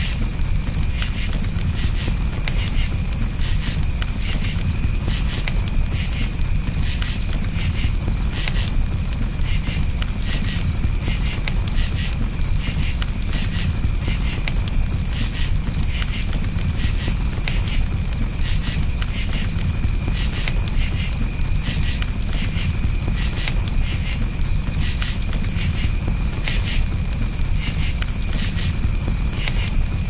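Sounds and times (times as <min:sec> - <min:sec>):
burning wood crackling: 0:00.0 - 0:30.0
campfire rumble: 0:00.0 - 0:30.0
crickets chirping: 0:00.0 - 0:30.0.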